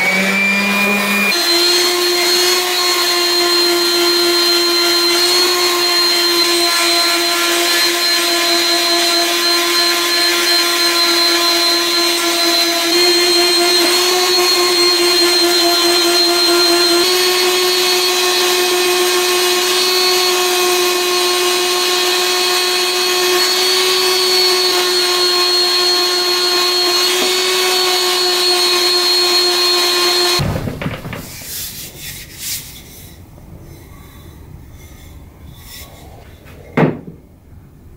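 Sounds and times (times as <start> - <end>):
orbital sander sanding wood: 0.0 - 30.4.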